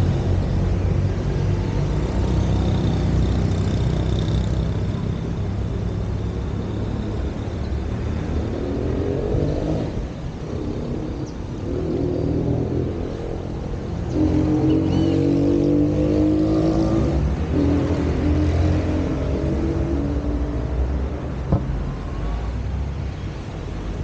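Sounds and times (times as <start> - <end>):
vehicle accelerating: 0.0 - 22.5
vehicle engines running: 0.0 - 24.0.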